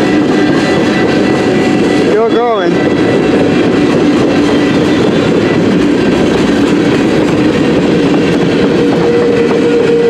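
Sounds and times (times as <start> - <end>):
train wheels rumbling on rails: 0.0 - 10.0
wheels clickety-clack: 0.0 - 10.0.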